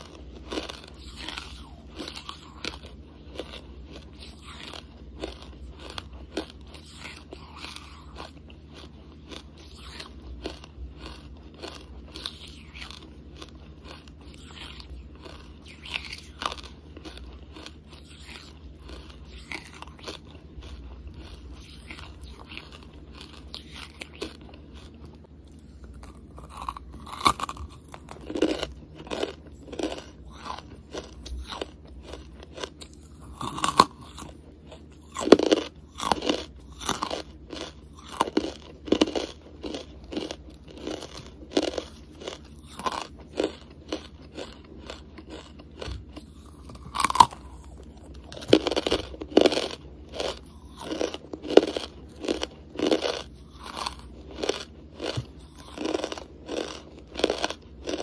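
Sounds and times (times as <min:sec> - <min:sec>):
person crunching charcoal: 0:00.0 - 0:58.0.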